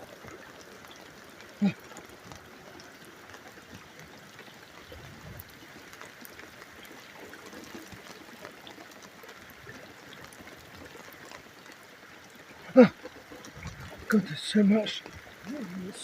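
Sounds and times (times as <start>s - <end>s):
small drip ticks: 0.0s - 16.0s
steady rain falling: 0.0s - 16.0s
water trickling: 0.0s - 16.0s.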